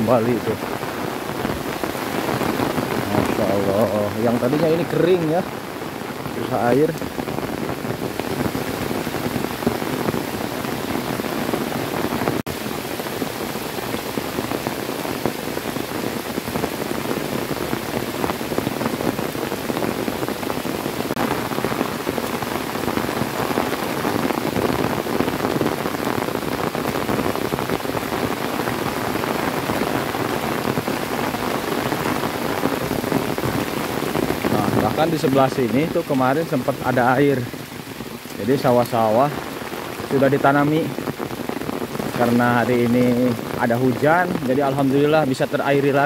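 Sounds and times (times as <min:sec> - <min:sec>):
steady rain: 0:00.0 - 0:46.0.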